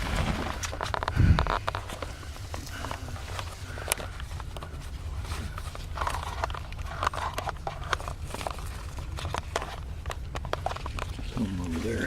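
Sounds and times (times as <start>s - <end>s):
low steady rumble: 0.0s - 12.0s
person crawling in dirt: 0.0s - 12.0s.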